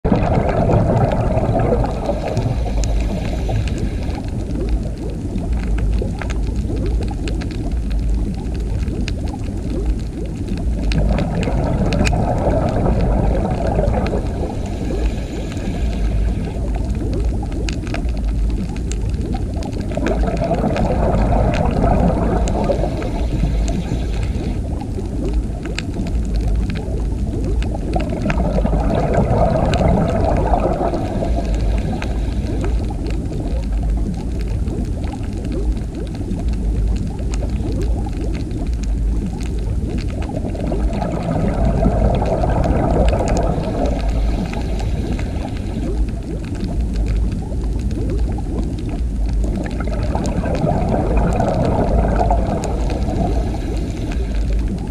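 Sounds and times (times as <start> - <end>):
underwater rush of water: 0.0 - 54.9.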